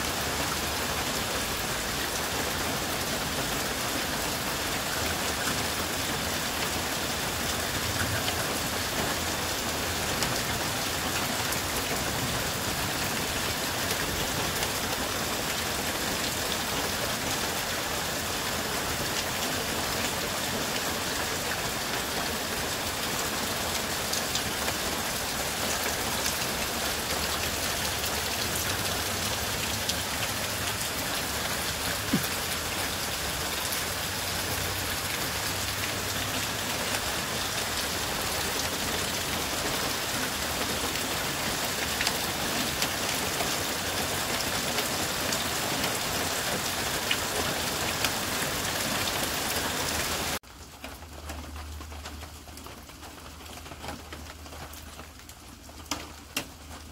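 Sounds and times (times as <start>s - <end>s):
heavy rain on water: 0.0s - 56.9s.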